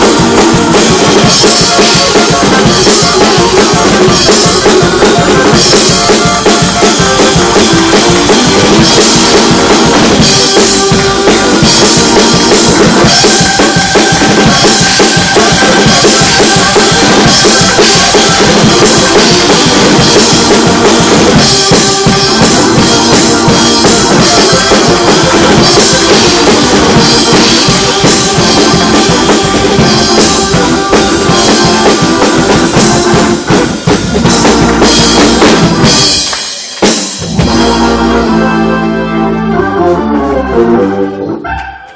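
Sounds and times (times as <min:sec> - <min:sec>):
drum kit: 0:00.0 - 0:40.0
church praise music: 0:00.0 - 0:41.9.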